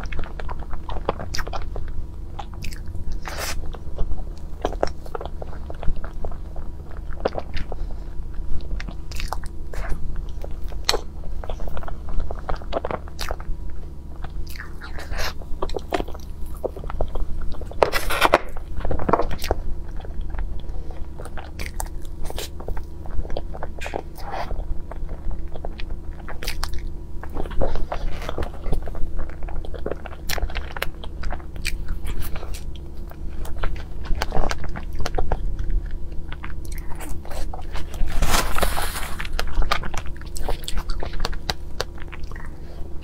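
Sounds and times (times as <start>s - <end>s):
steady low hum: 0.0s - 43.0s
wet chewing and lip-smacking: 0.0s - 43.0s.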